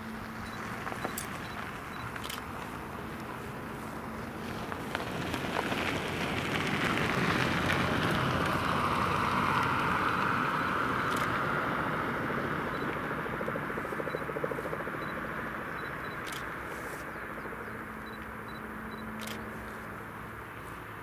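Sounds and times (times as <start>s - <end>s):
turboprop engine whine: 0.0s - 21.0s.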